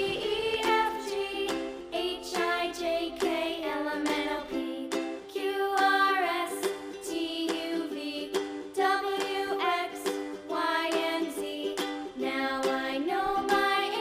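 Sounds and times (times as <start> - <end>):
song with singing voice: 0.0 - 14.0.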